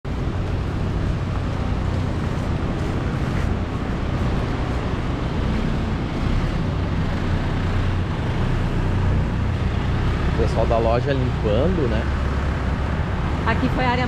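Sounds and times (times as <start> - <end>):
city street rumble: 0.0 - 14.0.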